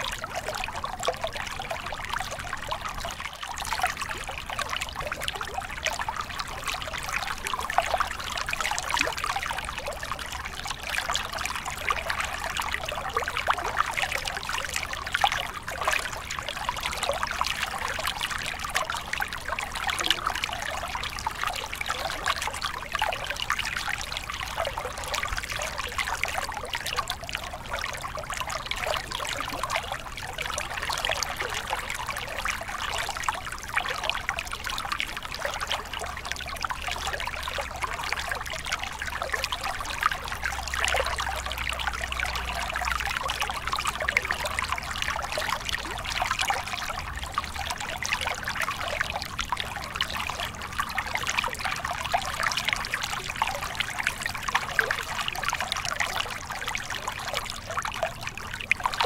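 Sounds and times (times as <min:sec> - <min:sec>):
stream splashing over rocks: 0:00.0 - 0:59.0.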